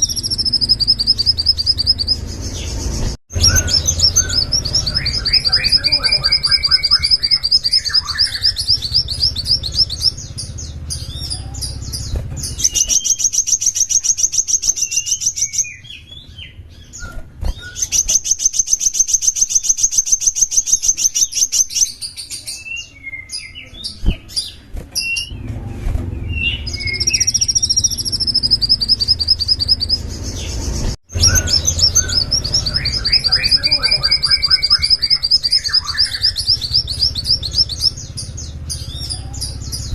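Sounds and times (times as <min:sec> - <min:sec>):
songbird trilling: 0:00.0 - 0:25.4, 0:26.2 - 0:39.9
bird chirps: 0:00.0 - 0:39.9.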